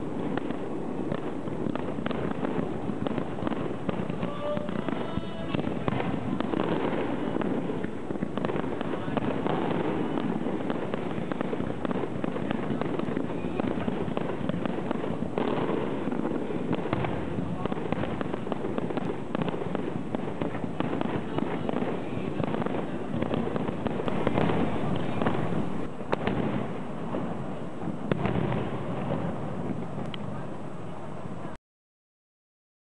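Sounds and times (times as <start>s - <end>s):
firework shells bursting: 0.0s - 30.2s.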